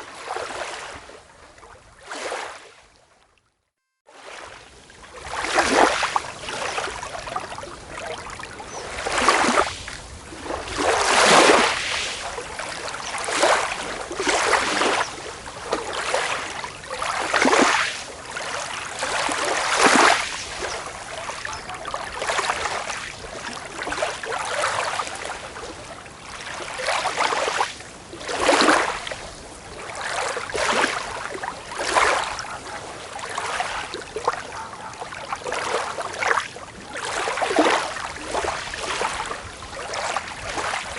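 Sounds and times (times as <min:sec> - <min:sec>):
small waves washing onto beach: 0:00.0 - 0:03.2, 0:04.1 - 0:40.9.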